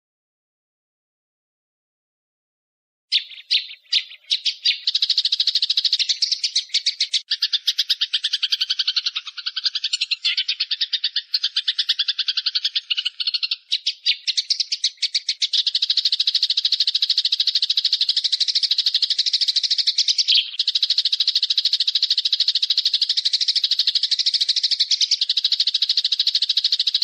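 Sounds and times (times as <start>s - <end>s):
small bird chattering trill: 3.1s - 27.0s.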